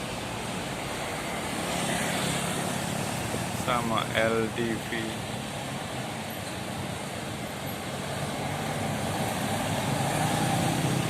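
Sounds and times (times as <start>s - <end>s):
bus engine and tyres: 0.0s - 11.0s.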